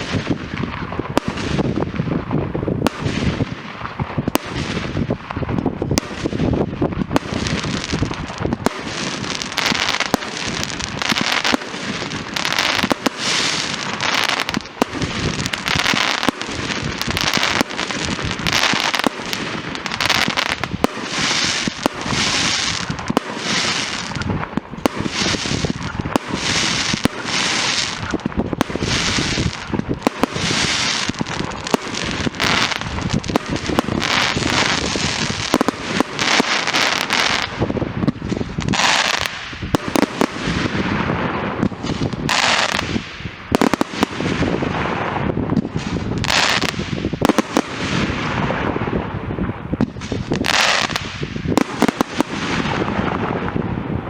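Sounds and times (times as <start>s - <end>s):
fireworks crackling burst: 0.0s - 54.0s
fireworks sharp bangs: 0.0s - 54.0s.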